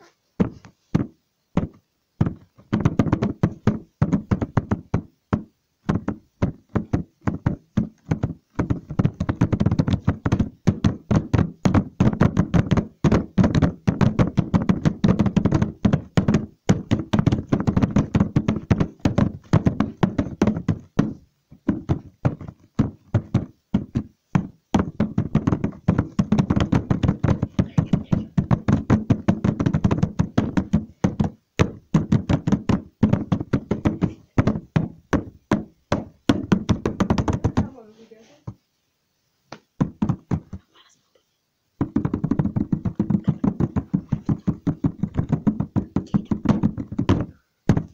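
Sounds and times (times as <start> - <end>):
fast irregular tapping: 0.4 - 37.8, 39.5 - 40.7, 41.8 - 47.9.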